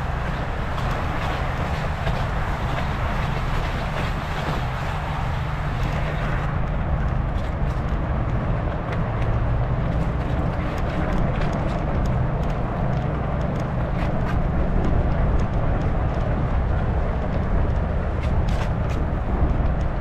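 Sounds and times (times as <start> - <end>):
bike tyre road noise: 0.0 - 20.0
wind rumble on microphone: 0.0 - 20.0.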